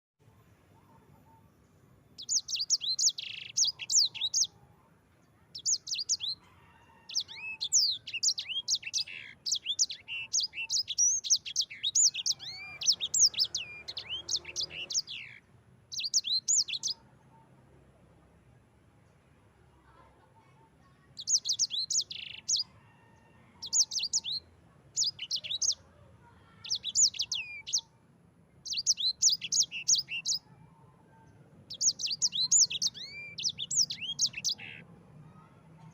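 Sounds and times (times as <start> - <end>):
songbird singing: 0.3 - 17.6, 21.1 - 35.8.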